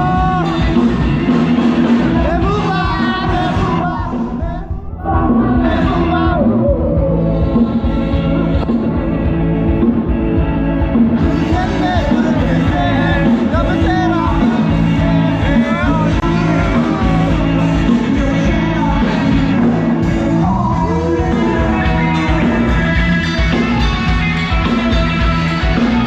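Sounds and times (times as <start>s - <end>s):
club music with singing: 0.0s - 26.0s
crowd noise and voices: 0.0s - 26.0s.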